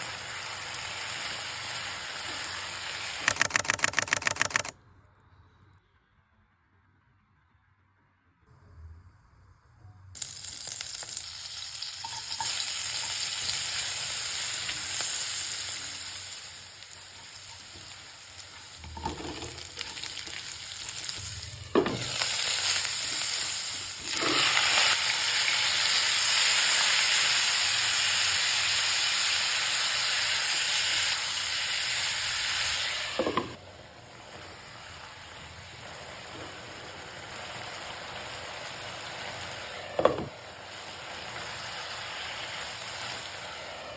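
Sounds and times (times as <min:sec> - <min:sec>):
food sizzling in hot oil: 0:00.0 - 0:03.8, 0:10.2 - 0:43.9.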